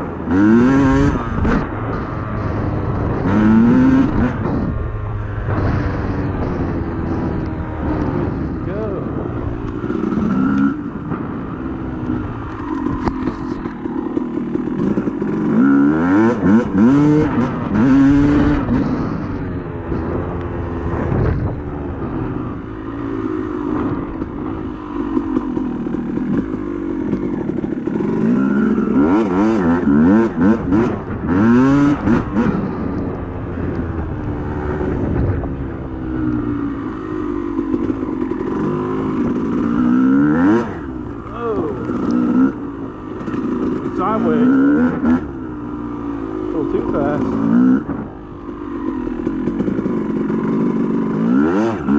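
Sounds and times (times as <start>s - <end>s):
dirt bike engine revving: 0.0s - 35.8s, 36.4s - 51.9s.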